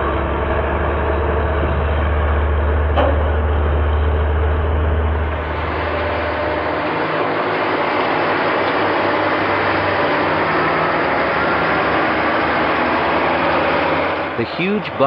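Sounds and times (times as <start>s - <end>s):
heavy machinery engine: 0.0s - 15.0s.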